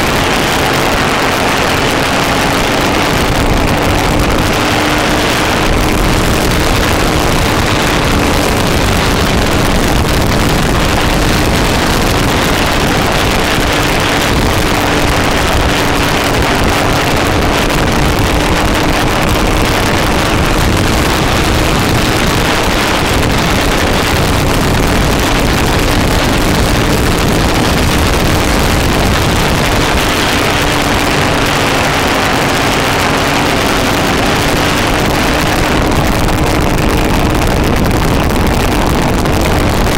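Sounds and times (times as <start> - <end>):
go-kart engine running flat out: 0.0 - 39.9
wind buffeting microphone: 0.0 - 39.9.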